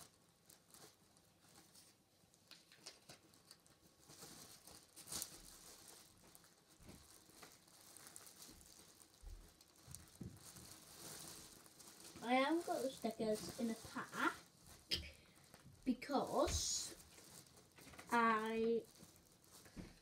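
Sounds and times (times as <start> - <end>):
plastic wrapper crinkle: 0.0 - 20.0
rustling of plastic wrappers: 0.0 - 20.0.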